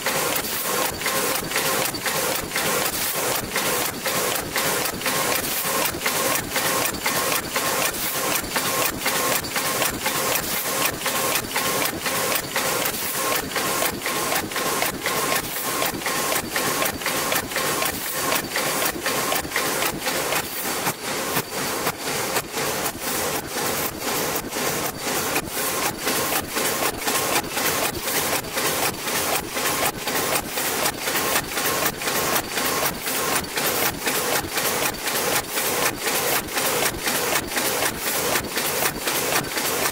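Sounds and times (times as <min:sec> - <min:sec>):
machine clacking: 0:00.0 - 0:39.9.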